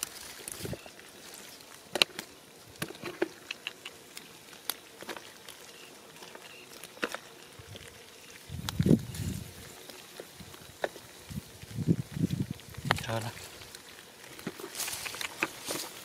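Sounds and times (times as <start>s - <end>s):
fish flopping on mud: 0.0s - 16.0s.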